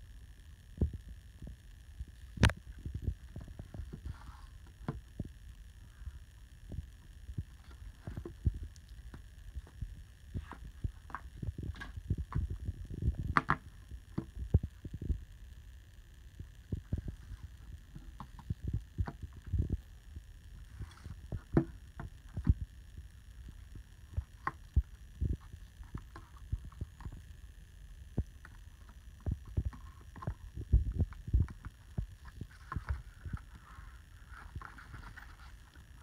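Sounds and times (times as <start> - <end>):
faint electronic hum: 0.0 - 36.0.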